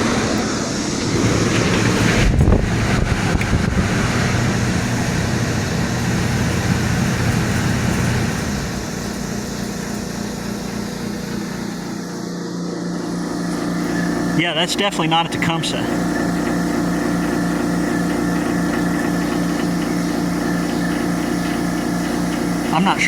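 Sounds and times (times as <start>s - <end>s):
blower fan rushing: 0.0s - 23.0s
compressor hum: 0.0s - 23.0s.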